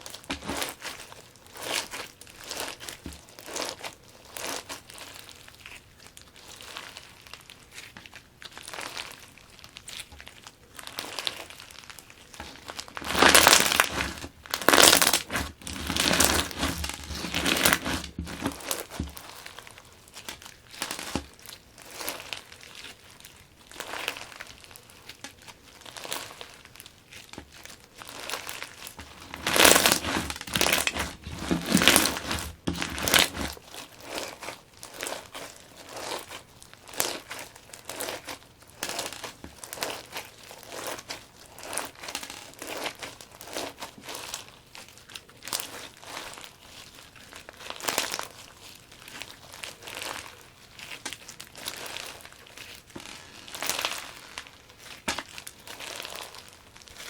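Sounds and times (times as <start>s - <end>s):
crunchy slime crackling: 0.0s - 57.0s.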